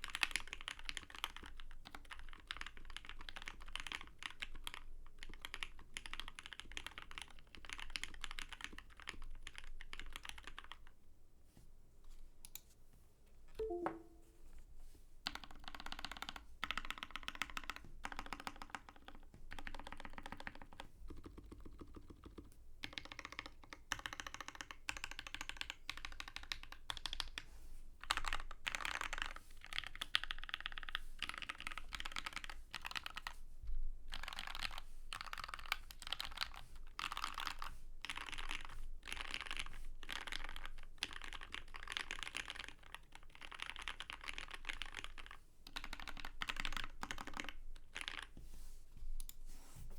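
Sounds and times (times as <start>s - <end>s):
mechanical keyboard typing: 0.0s - 10.9s, 15.3s - 27.5s, 28.1s - 33.4s, 34.1s - 48.4s.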